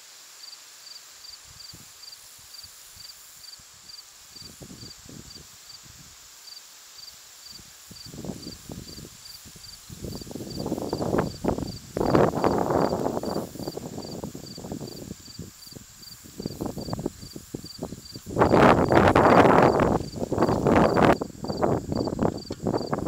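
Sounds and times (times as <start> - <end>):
insects chirping: 0.4 - 23.0.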